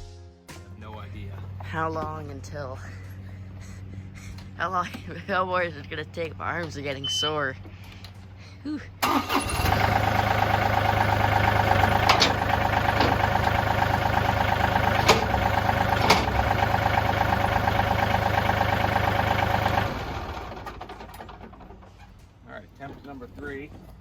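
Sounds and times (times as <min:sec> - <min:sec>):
diesel tractor engine idling: 0:01.0 - 0:24.0.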